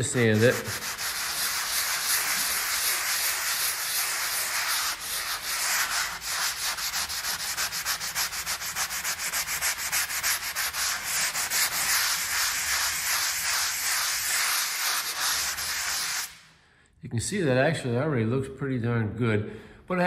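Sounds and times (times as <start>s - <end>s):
sanding sponge scratching drywall: 0.0s - 16.4s.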